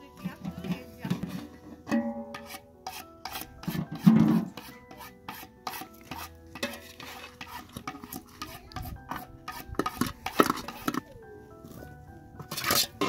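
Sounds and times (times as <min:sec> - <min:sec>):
spoon scraping metal pot: 0:00.3 - 0:11.0, 0:12.4 - 0:13.0.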